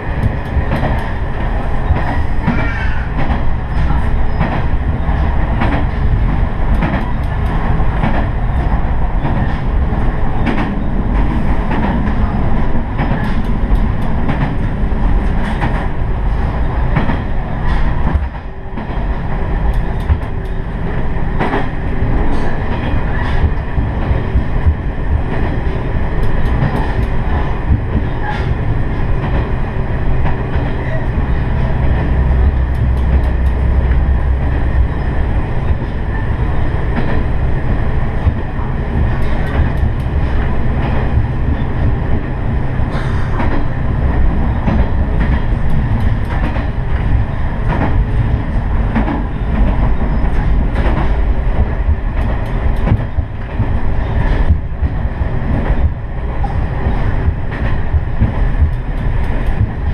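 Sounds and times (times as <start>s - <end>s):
railcar engine drone: 0.0s - 59.9s.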